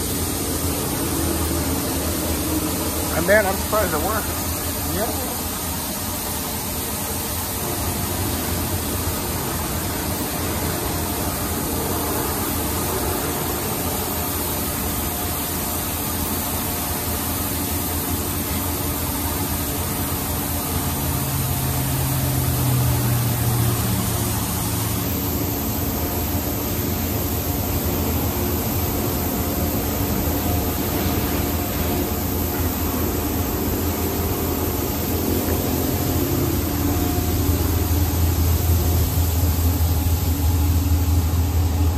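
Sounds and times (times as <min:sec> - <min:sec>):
high-pressure water spray hissing: 0:00.0 - 0:41.9
machine humming: 0:00.0 - 0:41.9.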